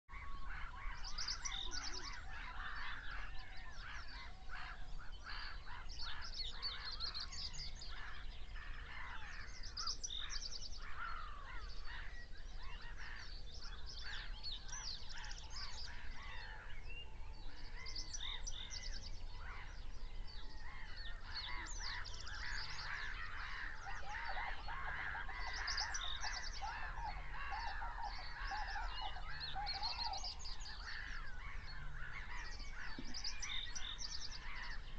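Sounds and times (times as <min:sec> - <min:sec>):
birds calling: 0:00.1 - 0:34.9.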